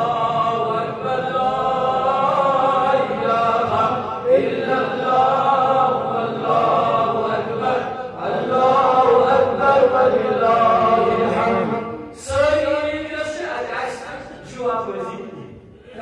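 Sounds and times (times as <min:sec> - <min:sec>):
devotional chanting: 0:00.0 - 0:16.0.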